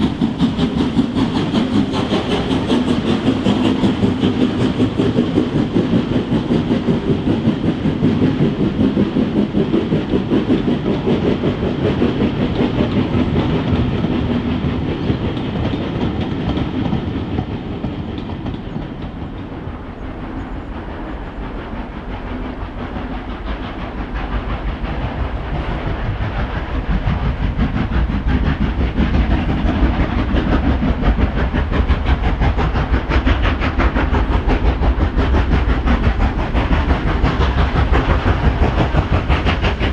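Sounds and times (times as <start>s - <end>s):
steam locomotive exhaust beats: 0.0s - 39.9s
train running on rails: 0.0s - 39.9s.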